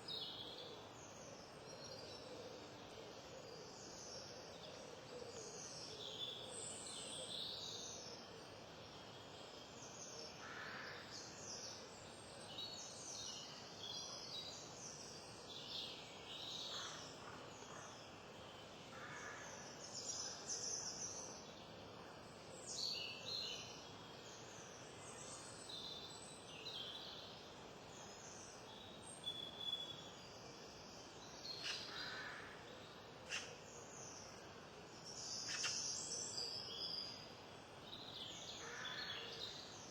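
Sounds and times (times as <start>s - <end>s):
songbirds singing and chirping: 0.0s - 10.4s, 11.0s - 39.9s
steady background hiss: 0.0s - 39.9s.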